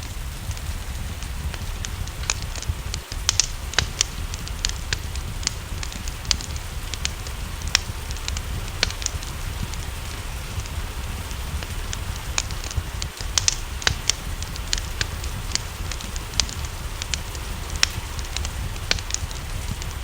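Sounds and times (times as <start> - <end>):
low rumble: 0.0 - 20.0
rain hissing: 0.0 - 20.0
wood fire crackling: 0.0 - 20.0.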